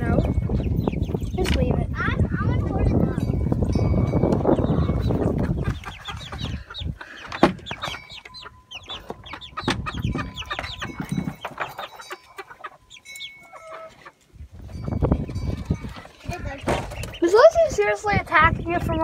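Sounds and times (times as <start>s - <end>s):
chickens clucking: 0.0s - 19.0s
chicks peeping: 0.0s - 19.0s.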